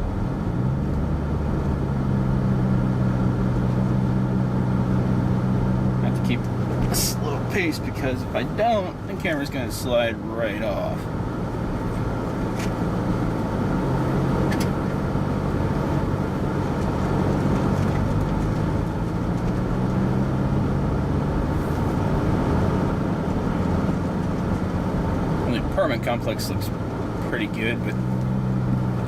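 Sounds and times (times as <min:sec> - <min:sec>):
car engine and tyre hum: 0:00.0 - 0:29.0.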